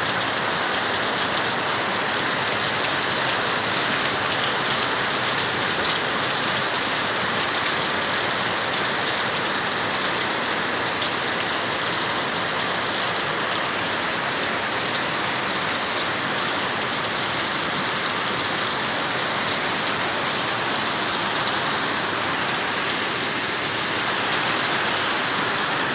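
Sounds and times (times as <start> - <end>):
heavy rain pattering: 0.0 - 25.9.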